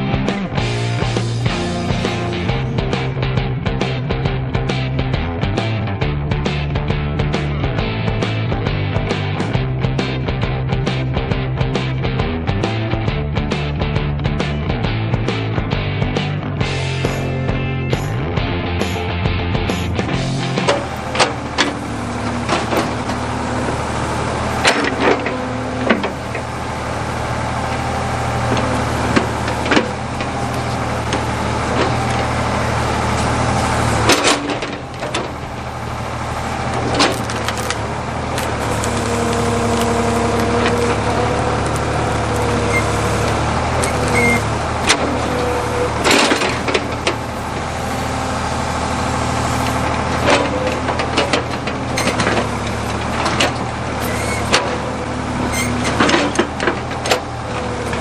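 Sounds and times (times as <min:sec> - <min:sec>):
hydraulics whining: 0:00.0 - 0:05.8, 0:16.4 - 0:58.0
backhoe engine running under load: 0:00.0 - 0:58.0.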